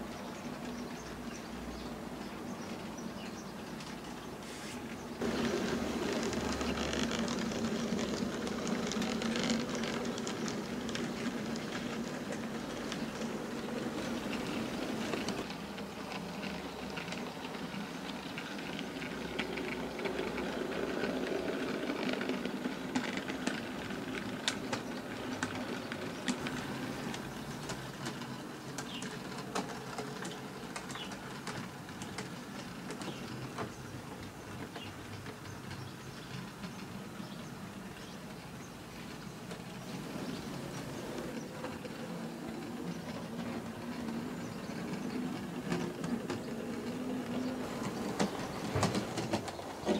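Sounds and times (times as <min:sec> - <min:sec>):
wheels clicking over rail joints: 0:00.0 - 0:49.9.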